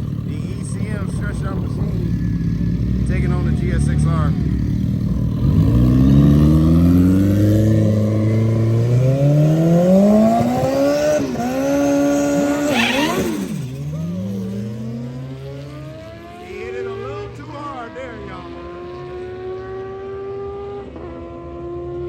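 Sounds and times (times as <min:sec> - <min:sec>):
motorcycles accelerating hard: 0:00.0 - 0:22.0.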